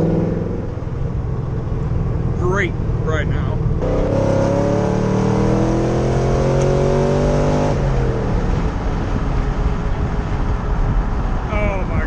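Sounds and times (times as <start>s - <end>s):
car engine accelerating hard: 0.0s - 11.5s.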